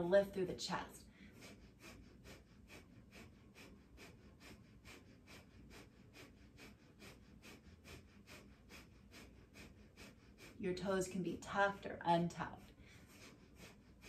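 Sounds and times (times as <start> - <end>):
rapid nasal breathing: 1.0 - 14.0.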